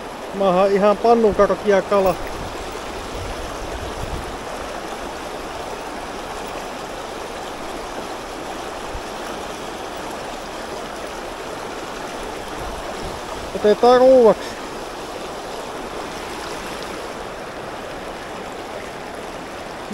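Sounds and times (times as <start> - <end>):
river rapids rushing over rocks: 0.0 - 19.9.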